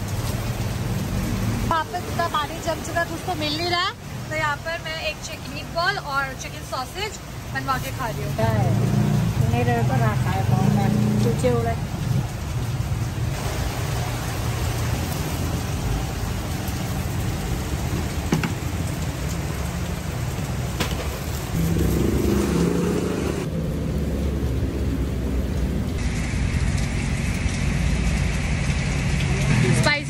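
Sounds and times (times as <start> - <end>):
heavy rain hissing: 0.0 - 23.5, 25.3 - 30.0.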